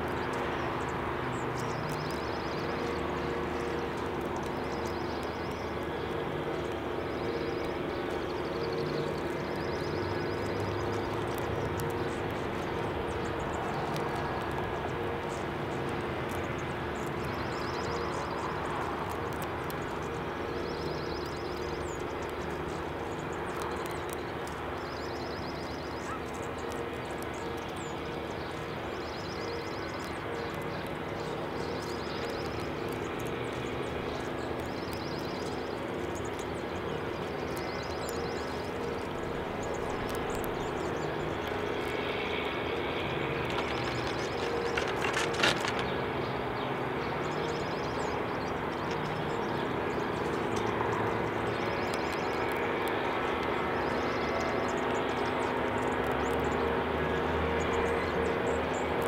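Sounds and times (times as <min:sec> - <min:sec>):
engine drone: 0:00.0 - 0:59.0.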